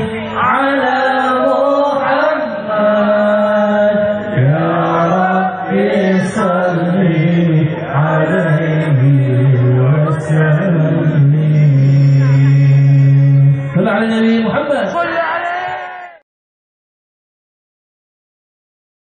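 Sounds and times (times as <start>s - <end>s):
man chanting into a microphone: 0.0s - 15.9s.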